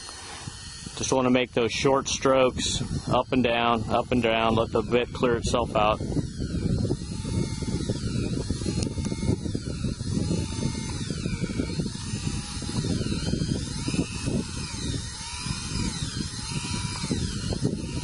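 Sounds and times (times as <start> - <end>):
cordless drill turning auger: 0.0 - 18.0
grinding of sand: 0.0 - 18.0.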